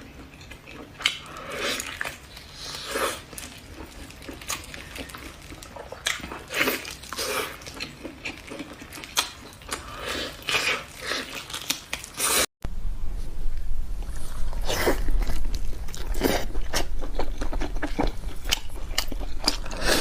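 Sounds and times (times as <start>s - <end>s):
person chewing and biting food: 0.1s - 12.5s, 14.0s - 20.0s.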